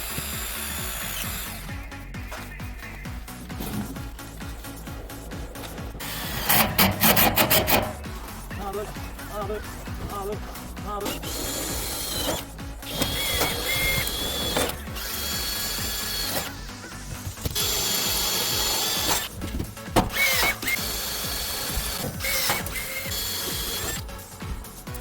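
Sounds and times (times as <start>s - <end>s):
power tool whining: 0.0s - 1.8s, 3.6s - 24.3s.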